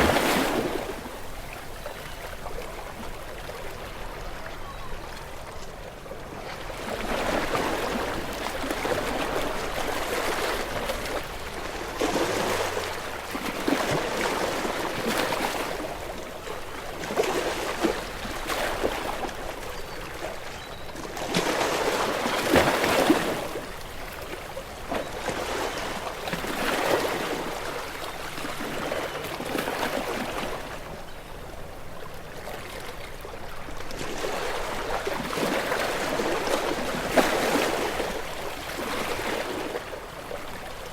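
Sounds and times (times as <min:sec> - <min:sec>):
waves breaking against rocks: 0:00.0 - 0:04.0, 0:06.5 - 0:20.4, 0:21.1 - 0:30.9, 0:32.1 - 0:40.9.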